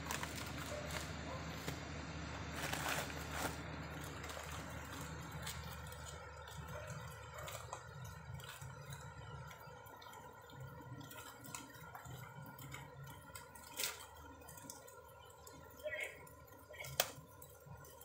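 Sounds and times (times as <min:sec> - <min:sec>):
distant road traffic hum: 0:00.0 - 0:18.0.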